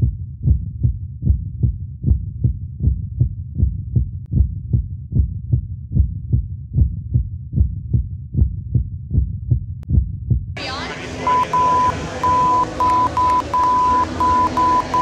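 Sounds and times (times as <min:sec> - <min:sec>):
muffled thudding bass beat: 0:00.0 - 0:10.6, 0:11.5 - 0:15.0.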